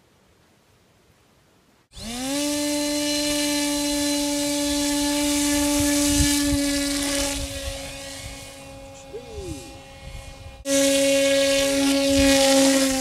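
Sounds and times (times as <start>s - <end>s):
electric motor propeller whine: 1.9s - 13.0s.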